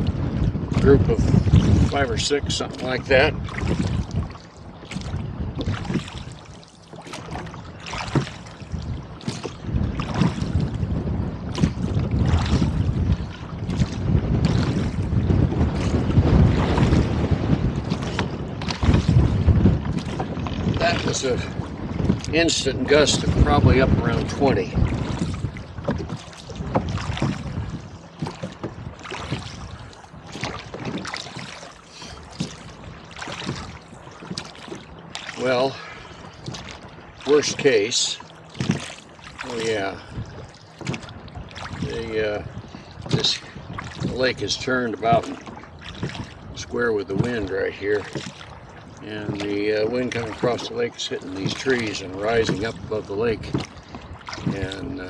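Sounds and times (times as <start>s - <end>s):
oars splashing in water: 0.0s - 55.0s
wind buffeting microphone: 0.0s - 55.0s.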